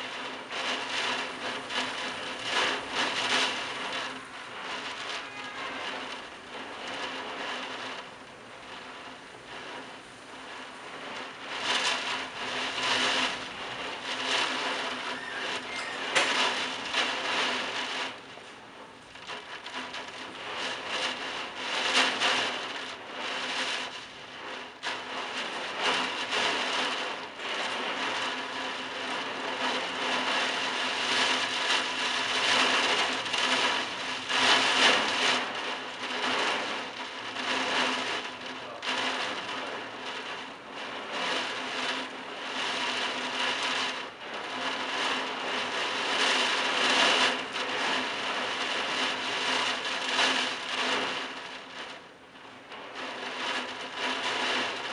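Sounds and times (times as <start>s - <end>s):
heavy rain lashing roof tiles: 0.0s - 54.9s.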